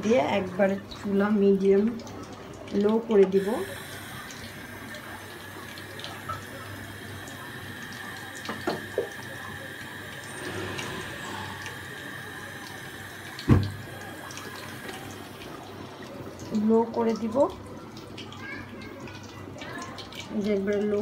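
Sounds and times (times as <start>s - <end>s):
curry bubbling: 0.0s - 21.0s.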